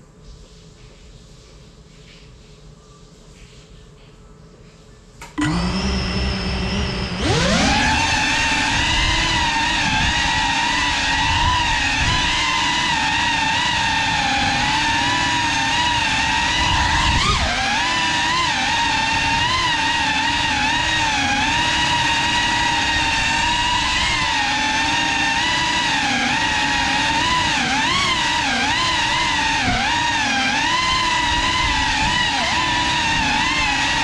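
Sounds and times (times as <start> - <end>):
drone propellers whining: 5.2 - 34.0.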